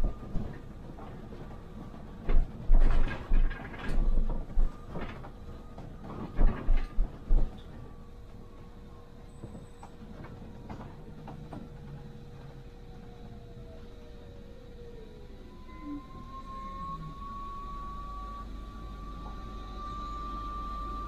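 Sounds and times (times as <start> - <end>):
bus cabin running noise: 0.0 - 21.0
faint falling whine: 3.1 - 21.0.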